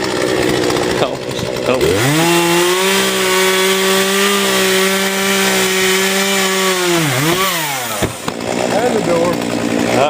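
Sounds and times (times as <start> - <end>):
chainsaw at full throttle: 0.0 - 10.0.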